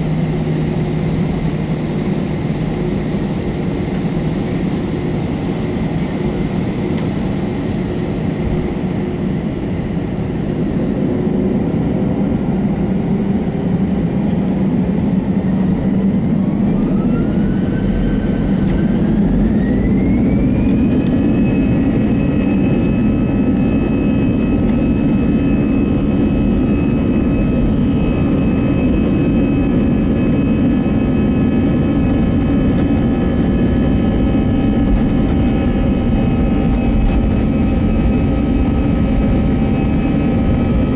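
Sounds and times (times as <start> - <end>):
jet engines spooling up: 0.0 - 40.9.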